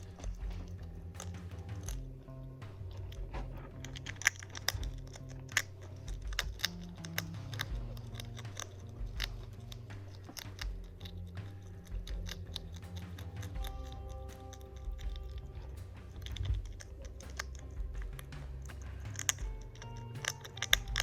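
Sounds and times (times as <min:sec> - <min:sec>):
hedgehog crunching and chewing: 0:00.0 - 0:21.0
soft background music: 0:00.0 - 0:21.0.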